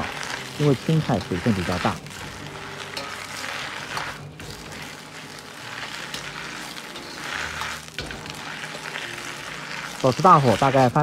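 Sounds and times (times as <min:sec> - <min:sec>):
metal ladle scraping a wok: 0:00.0 - 0:11.0
vegetables sizzling in a wok: 0:00.0 - 0:11.0
metal clinking on a wok: 0:01.1 - 0:05.1, 0:05.7 - 0:11.0.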